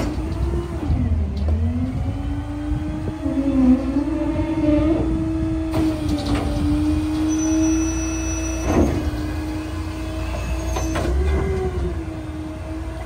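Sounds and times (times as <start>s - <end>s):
hydraulics whining: 0.0s - 13.0s.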